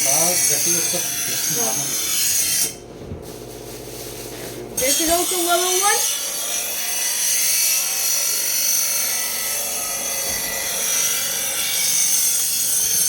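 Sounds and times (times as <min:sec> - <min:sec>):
electric knife sharpener grinding: 0:00.0 - 0:13.0.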